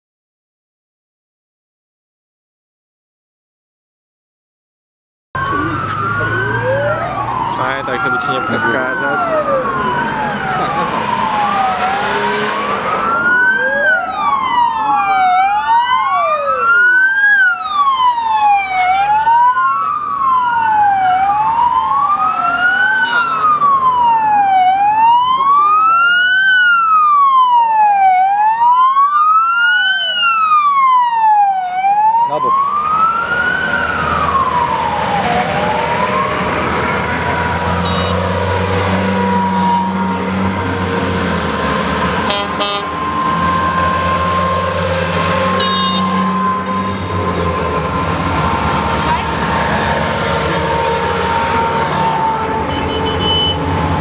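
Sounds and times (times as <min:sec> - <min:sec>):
heavy vehicle engines rumbling: 0:05.4 - 0:54.0
second siren sweeping: 0:05.4 - 0:54.0
siren wailing: 0:05.4 - 0:54.0.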